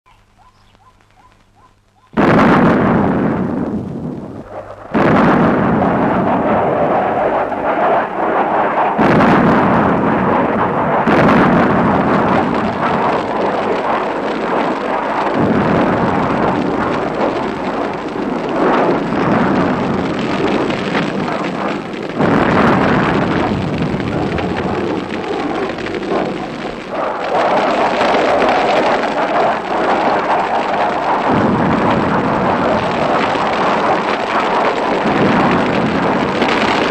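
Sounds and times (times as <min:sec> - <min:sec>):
rumbling noise: 0:00.2 - 0:36.9
heavy explosions: 0:02.2 - 0:36.9.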